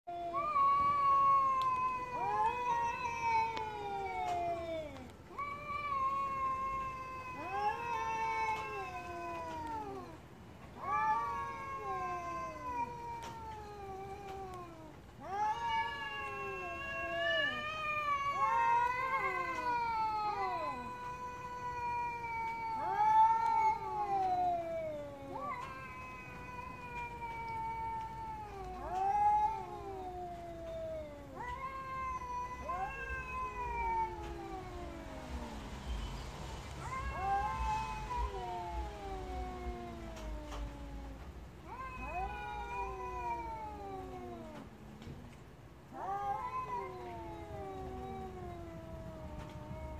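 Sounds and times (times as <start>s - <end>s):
cats yowling: 0.1s - 49.9s.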